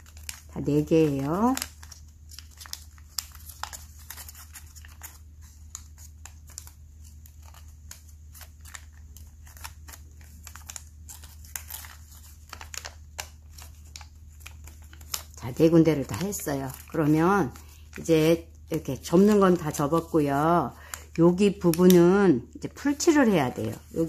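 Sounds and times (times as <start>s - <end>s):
paper being folded: 0.0s - 24.0s.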